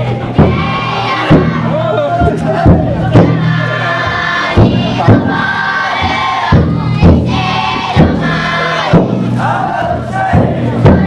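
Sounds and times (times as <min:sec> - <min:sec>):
crowd chanting long notes: 0:00.0 - 0:11.0
large taiko drum strokes: 0:00.0 - 0:11.0.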